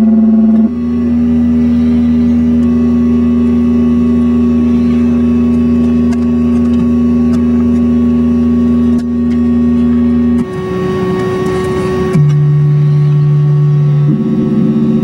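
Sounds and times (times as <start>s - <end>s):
electronic oscillator buzz: 0.0s - 15.0s
thin high whine: 0.0s - 15.0s.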